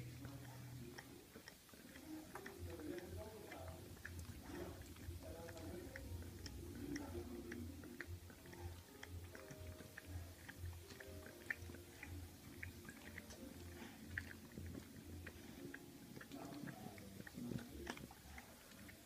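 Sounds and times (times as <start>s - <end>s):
puppy chewing wet smacking: 0.0s - 19.0s.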